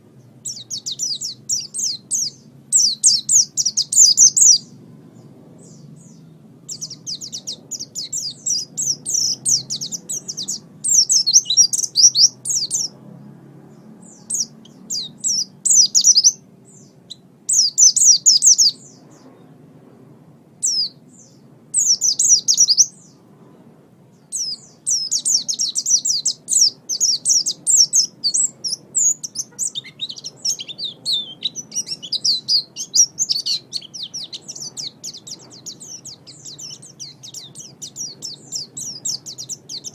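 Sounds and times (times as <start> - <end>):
bird twittering chirps: 0.0 - 13.0, 13.7 - 19.5, 20.6 - 23.2, 24.1 - 39.9.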